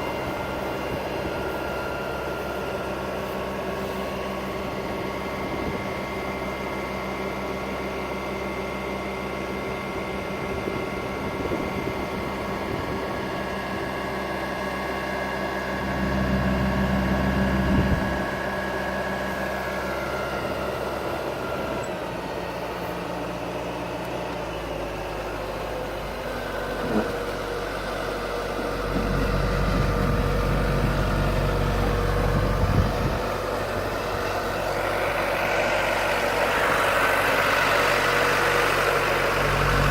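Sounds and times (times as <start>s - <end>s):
engine idling: 0.0s - 39.9s
heavier low engine rumble: 0.0s - 39.9s.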